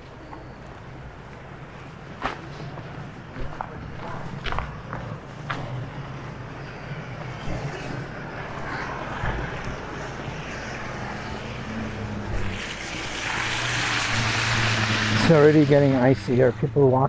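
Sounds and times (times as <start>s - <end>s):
tyres on snowy street: 0.0s - 17.0s
vehicle engine humming: 0.0s - 17.0s.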